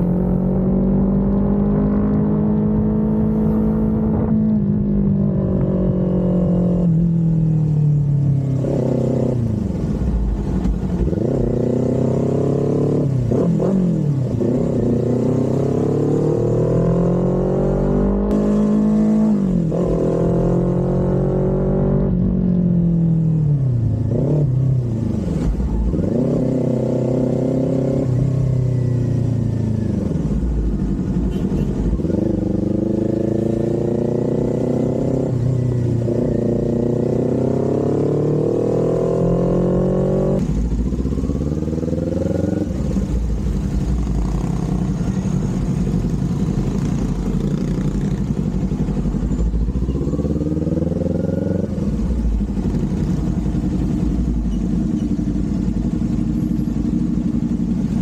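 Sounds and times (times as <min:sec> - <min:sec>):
motorcycle engine accelerating: 0:00.0 - 0:31.2, 0:31.8 - 0:58.0.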